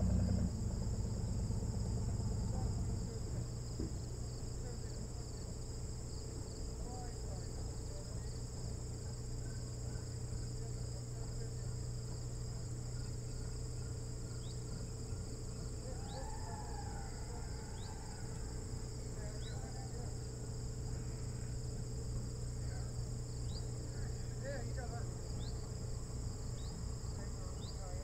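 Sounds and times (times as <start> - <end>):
crickets chirping: 0.0 - 28.0
low electrical hum: 0.0 - 28.0.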